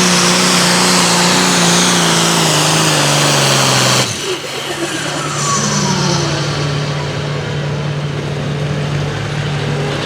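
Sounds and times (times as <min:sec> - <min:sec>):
diesel engine winding down to idle: 0:00.0 - 0:10.0.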